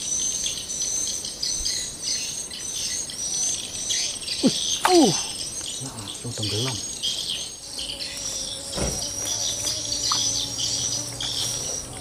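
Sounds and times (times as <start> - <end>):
birds chirping: 0.0 - 12.0
insects chirping and trilling: 0.0 - 12.0.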